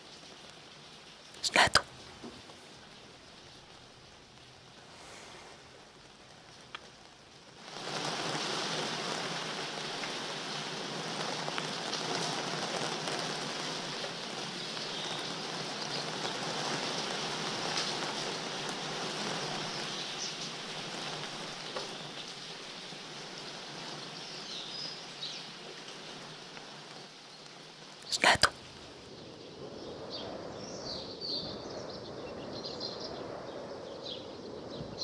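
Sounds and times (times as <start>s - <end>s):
rain rushing: 0.0s - 34.6s.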